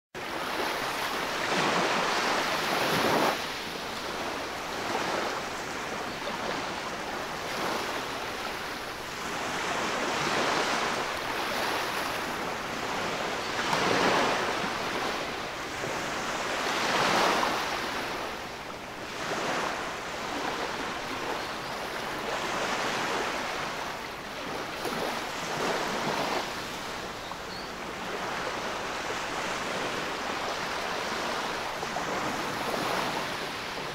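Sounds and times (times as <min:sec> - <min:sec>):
waves washing on sand: 0:00.2 - 0:33.9.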